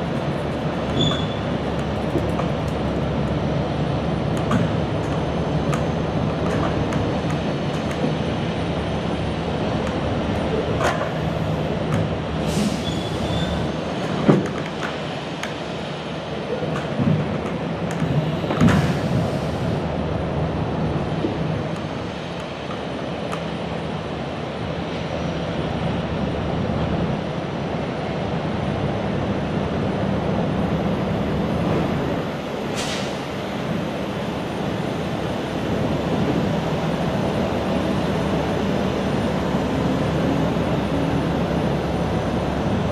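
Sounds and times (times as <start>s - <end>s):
road and chassis noise: 0.0s - 42.9s
truck engine drone: 0.0s - 42.9s.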